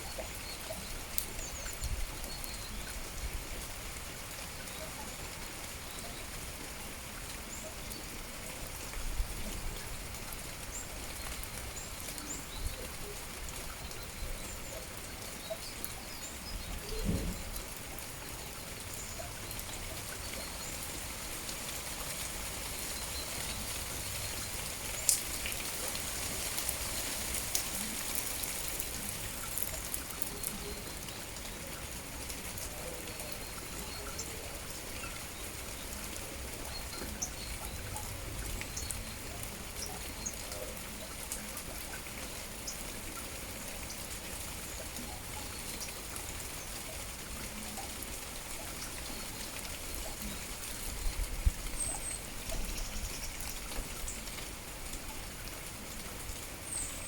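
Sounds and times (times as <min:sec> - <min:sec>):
rain falling: 0:00.0 - 0:57.0
water drips: 0:00.0 - 0:57.0.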